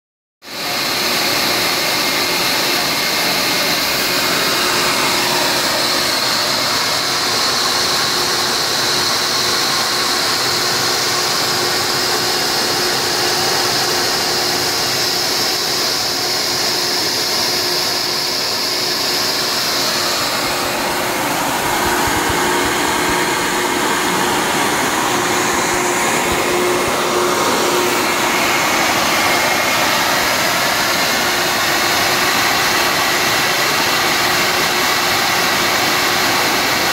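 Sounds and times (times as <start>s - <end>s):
high whine: 0.5s - 36.9s
vacuum cleaner motor rushing hiss: 0.5s - 36.9s.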